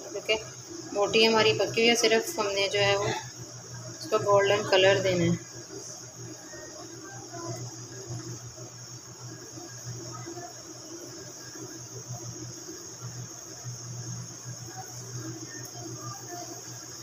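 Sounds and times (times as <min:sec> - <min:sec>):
deep-frying sizzle: 0:00.0 - 0:17.0.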